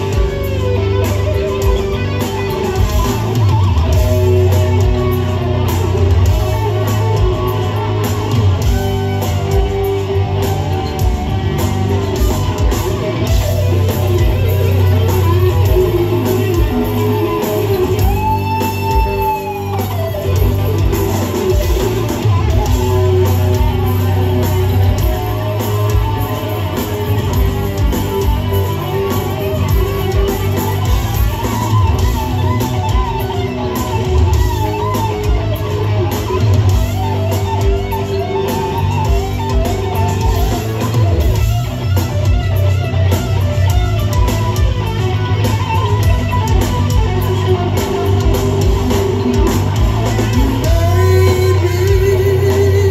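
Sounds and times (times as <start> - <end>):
heavy metal band playing live: 0.0 - 52.9
lead guitar bent notes: 0.0 - 52.9.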